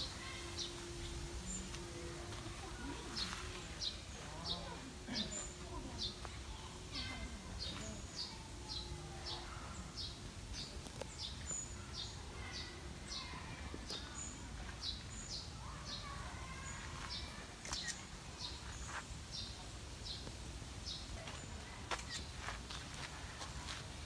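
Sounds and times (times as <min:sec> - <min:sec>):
low outdoor background noise: 0:00.0 - 0:24.0.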